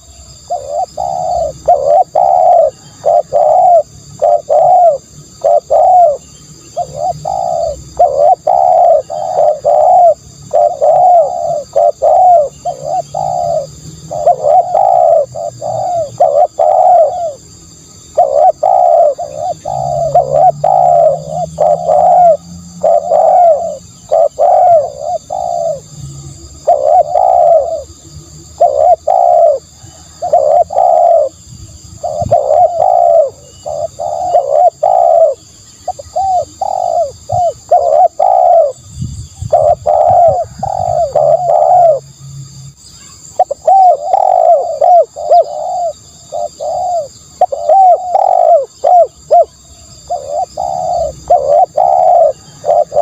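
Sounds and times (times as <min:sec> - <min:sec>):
dove cooing: 0:00.0 - 0:42.2, 0:43.0 - 0:53.0.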